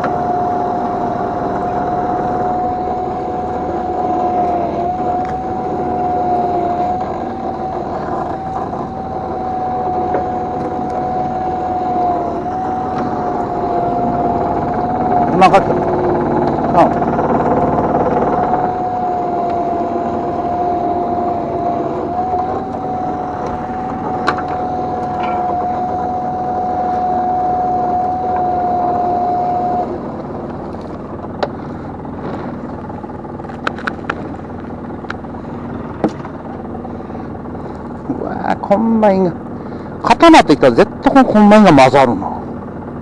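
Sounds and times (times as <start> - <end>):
boat engine hum: 0.0 - 43.0
net hauling machinery whine: 0.0 - 43.0.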